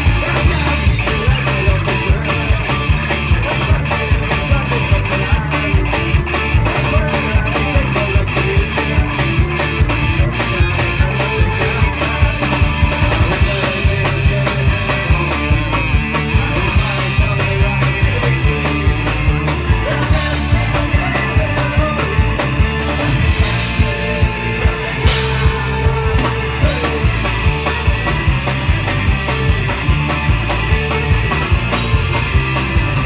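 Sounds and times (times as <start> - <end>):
driving drum beat: 0.0 - 33.0
folk-punk band playing live: 0.0 - 33.0.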